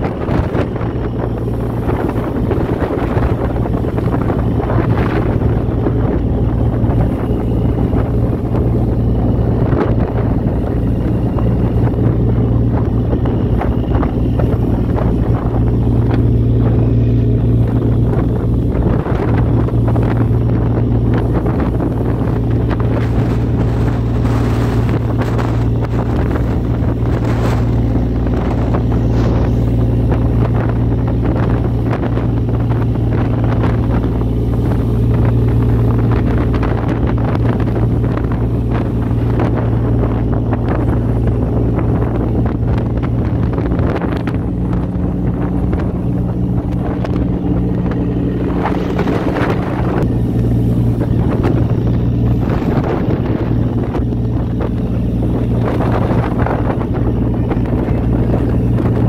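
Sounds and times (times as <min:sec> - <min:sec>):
boat engine drone: 0:00.0 - 0:59.0
water rushing along hull: 0:00.0 - 0:59.0
wind noise on microphone: 0:00.0 - 0:59.0.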